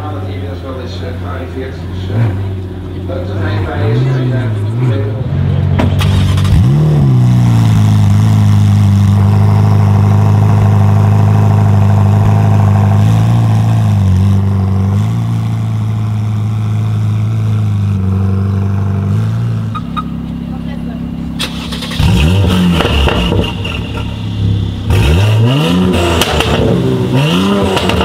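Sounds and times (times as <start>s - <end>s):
car engine starting and idling: 0.0s - 28.0s.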